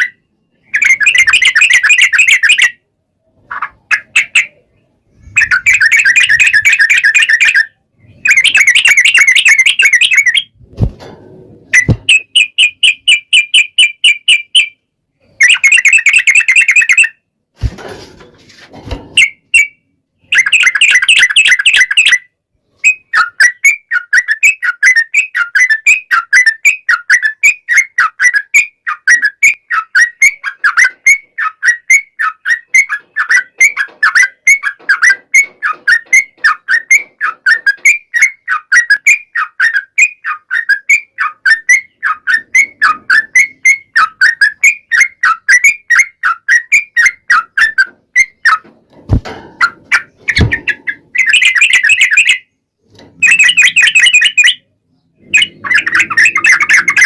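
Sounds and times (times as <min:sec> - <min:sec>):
bird trilling chirps: 0:00.0 - 0:10.6, 0:11.7 - 0:17.2, 0:19.2 - 0:48.7, 0:49.6 - 0:57.0.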